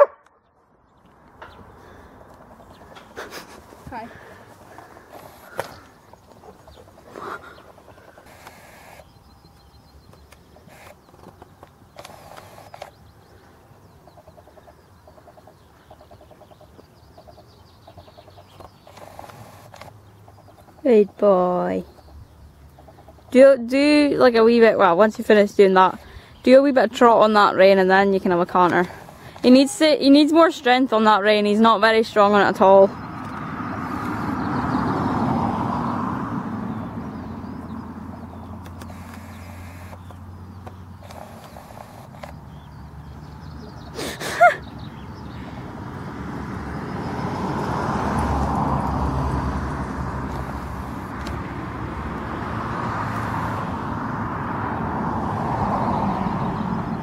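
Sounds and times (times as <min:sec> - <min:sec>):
vehicle passing by: 0:00.0 - 0:57.0
small birds chirping: 0:00.2 - 0:47.4, 0:54.6 - 0:57.0.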